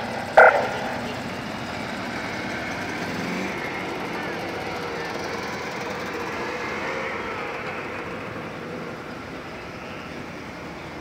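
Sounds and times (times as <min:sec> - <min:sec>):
car engines driving past slowly: 0:00.0 - 0:11.0.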